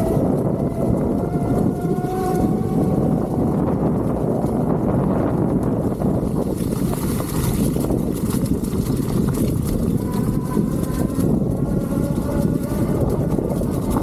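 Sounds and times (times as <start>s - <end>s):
bike tyres rolling rumble: 0.0s - 14.0s
wind rush: 0.0s - 14.0s.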